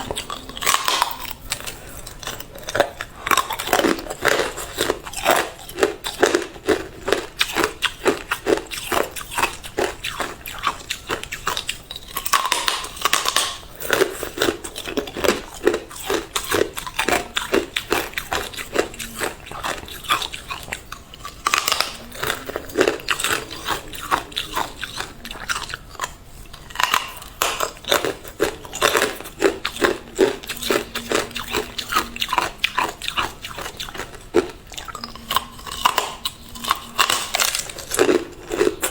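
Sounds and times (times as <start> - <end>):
ice crunching in mouth: 0.0 - 38.9.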